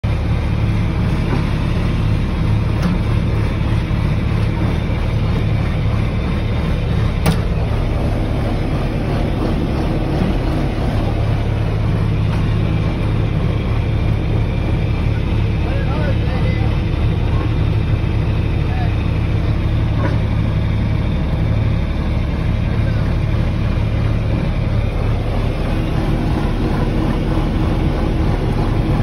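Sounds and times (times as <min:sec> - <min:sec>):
vehicle engine droning: 0:00.0 - 0:29.0.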